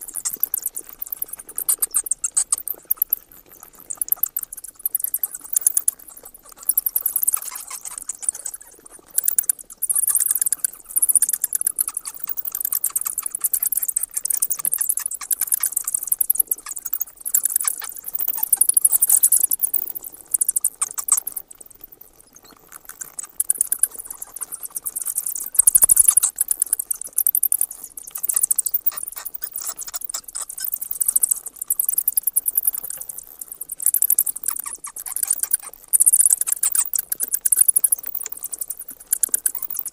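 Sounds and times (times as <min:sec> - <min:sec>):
bats squeaking and chattering: 0:00.0 - 0:39.9.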